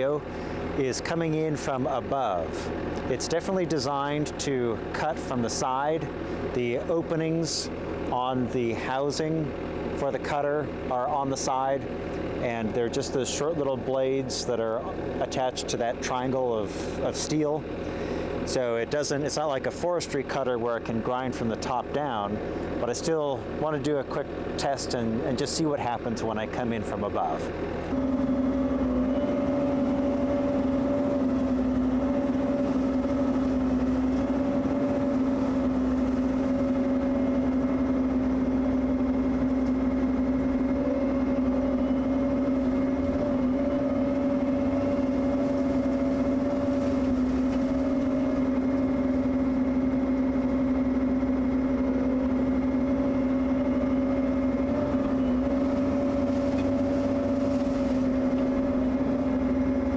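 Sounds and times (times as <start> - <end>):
excavator brush cutter humming: 0.0 - 59.9.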